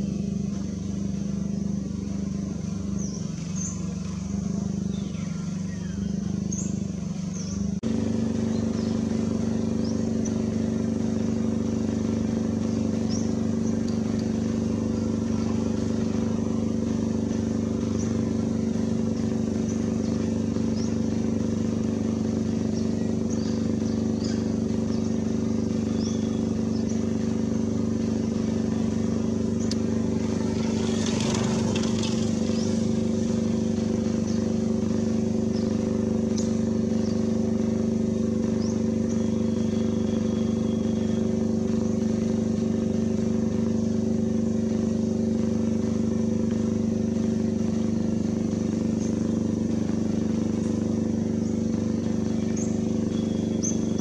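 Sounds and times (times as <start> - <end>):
engine-like drone: 0.0 - 54.0.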